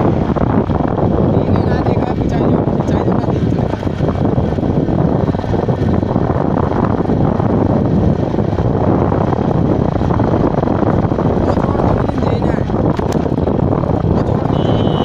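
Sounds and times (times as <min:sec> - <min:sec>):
road and engine noise: 0:00.0 - 0:15.0
wind rushing over microphone: 0:00.0 - 0:15.0.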